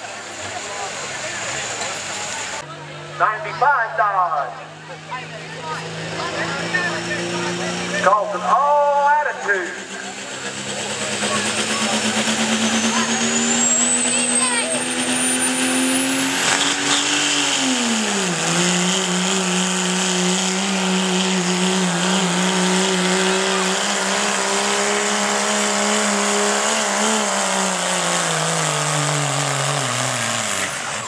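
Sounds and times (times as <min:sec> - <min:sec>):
diesel engine at full throttle: 0:00.0 - 0:31.0.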